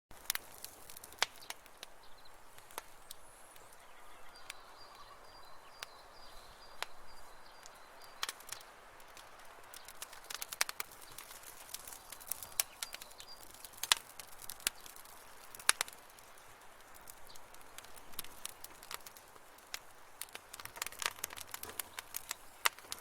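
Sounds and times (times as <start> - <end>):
campfire crackling: 0.1 - 23.0.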